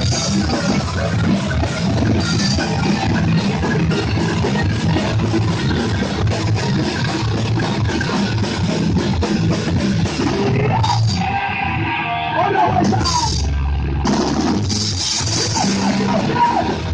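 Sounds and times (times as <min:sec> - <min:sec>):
punk band playing: 0:00.0 - 0:16.9.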